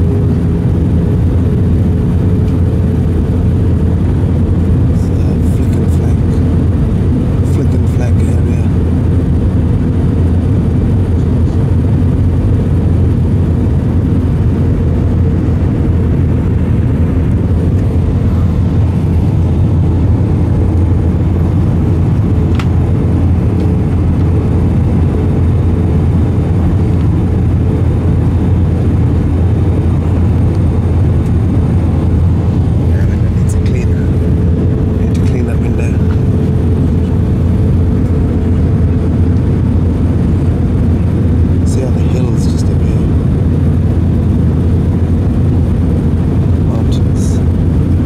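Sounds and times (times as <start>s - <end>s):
airplane cabin roar: 0.0s - 48.0s
faint constant hum: 0.0s - 48.0s.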